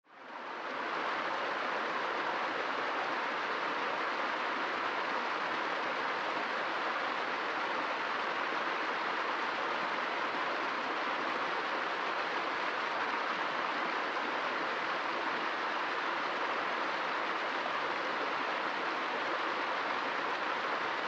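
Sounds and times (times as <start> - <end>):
stream rushing over rocks: 0.2 - 21.0.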